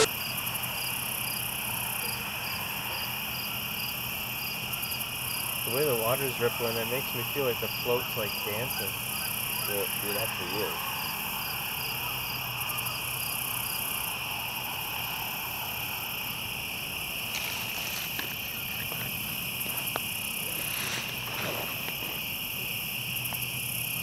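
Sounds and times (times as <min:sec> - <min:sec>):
crickets and insects trilling: 0:00.0 - 0:24.0.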